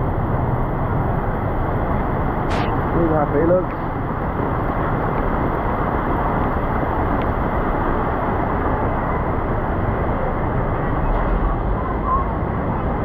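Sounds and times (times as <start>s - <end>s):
heavy rain: 0.1s - 13.0s.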